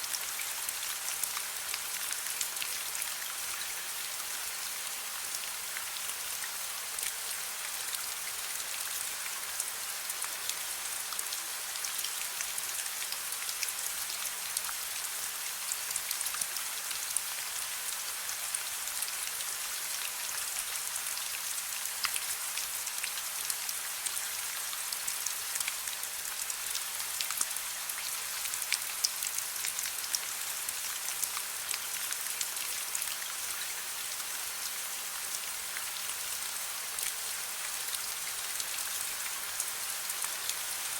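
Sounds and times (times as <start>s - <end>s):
soft rain hiss: 0.0s - 40.9s.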